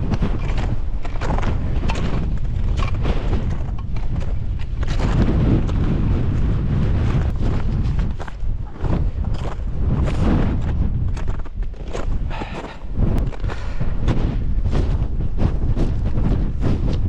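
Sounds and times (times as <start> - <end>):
footsteps crunching in snow: 0.0 - 17.0
wind buffeting microphone: 0.0 - 17.0.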